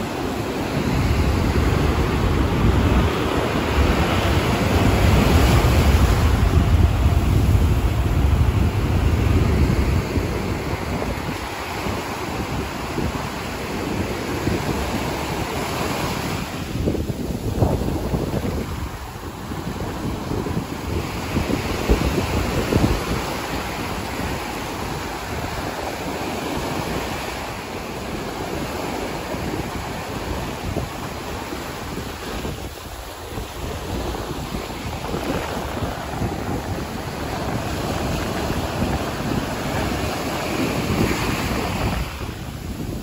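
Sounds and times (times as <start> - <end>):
small waves washing on beach: 0.0 - 43.0.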